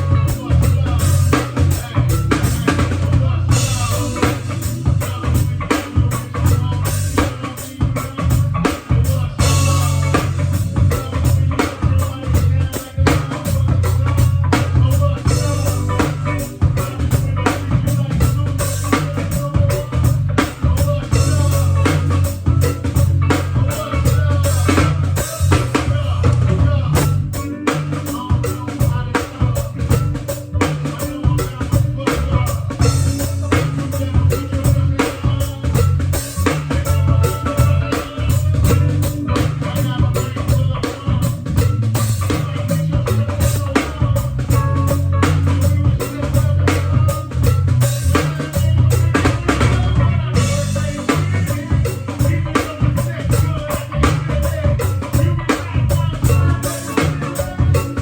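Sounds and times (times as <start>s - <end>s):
band music with drums and bass: 0.0s - 58.0s.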